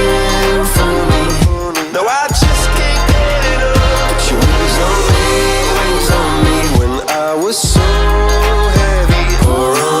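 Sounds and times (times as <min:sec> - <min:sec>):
pop r and b song: 0:00.0 - 0:10.0.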